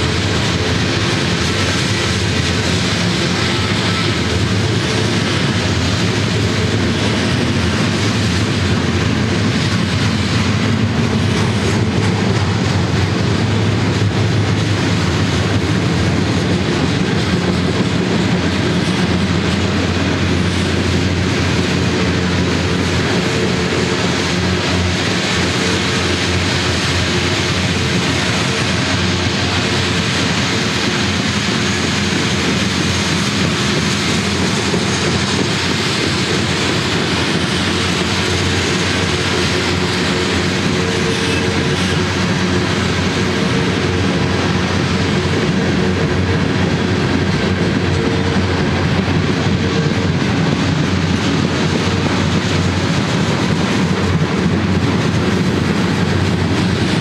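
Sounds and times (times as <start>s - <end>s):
freight cars rumbling and clattering: 0.0s - 57.0s.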